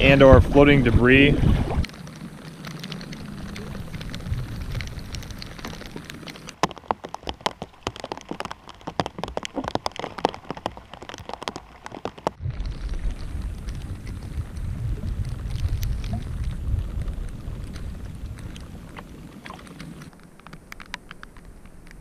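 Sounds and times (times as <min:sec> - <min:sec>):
rush of wind and water: 0:00.0 - 0:22.0
rain tapping on plastic bag: 0:01.9 - 0:22.0.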